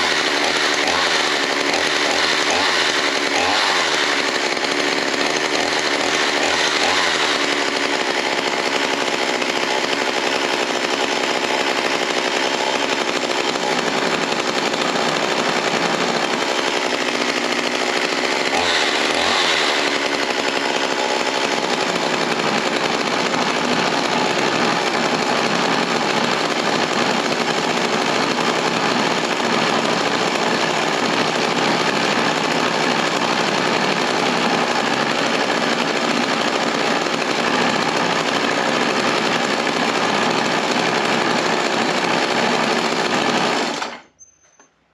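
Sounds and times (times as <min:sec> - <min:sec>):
chainsaw engine idling: 0:00.0 - 0:44.1.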